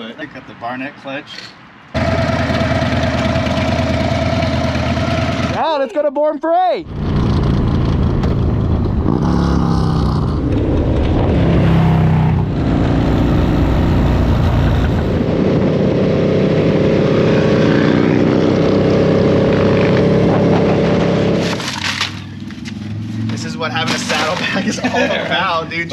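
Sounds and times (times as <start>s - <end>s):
motorcycle engines running: 2.0s - 5.6s, 6.9s - 25.9s.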